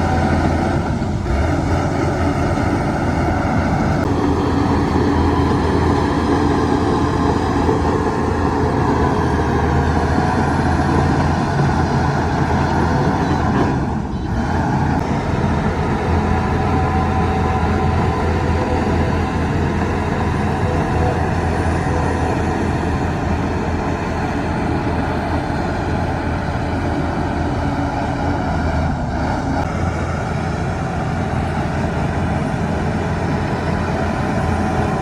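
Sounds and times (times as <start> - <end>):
heavy machinery diesel engine: 0.0 - 35.0.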